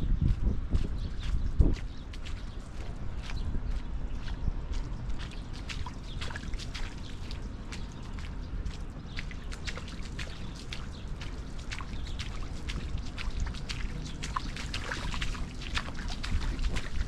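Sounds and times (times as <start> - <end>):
footsteps on wet gritty path: 0.0 - 17.0.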